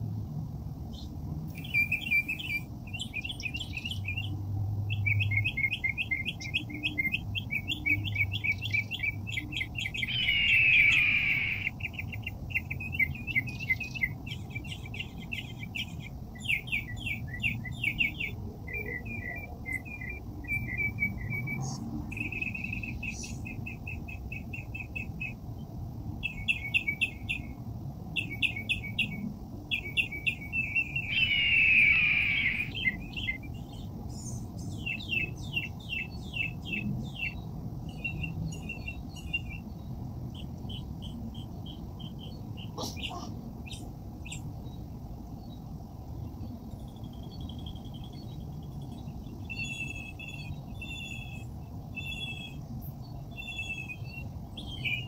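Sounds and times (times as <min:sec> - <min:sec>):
songbirds chirping: 0:00.8 - 0:55.0.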